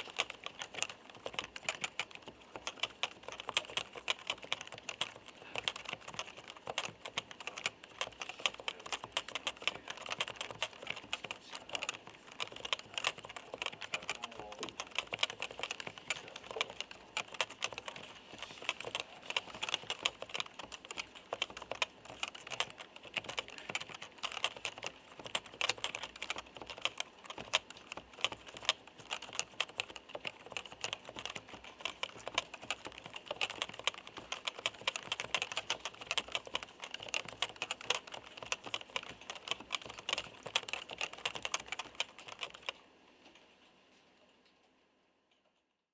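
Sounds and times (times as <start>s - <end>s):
fast keyboard typing: 0.0s - 42.8s.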